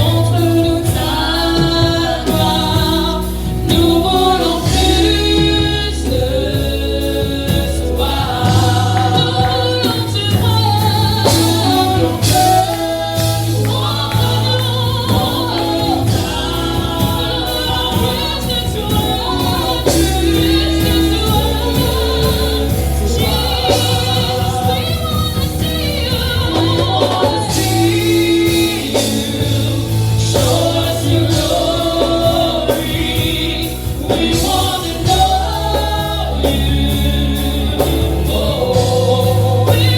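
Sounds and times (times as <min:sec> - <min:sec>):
band with bass line: 0:00.0 - 0:39.9
choir singing: 0:00.0 - 0:39.9.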